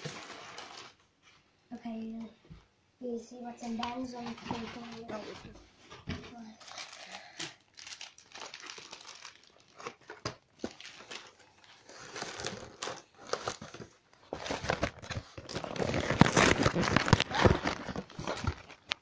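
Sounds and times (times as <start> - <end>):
cardboard and packaging crinkling: 0.0 - 1.1, 3.6 - 5.6, 6.2 - 19.0.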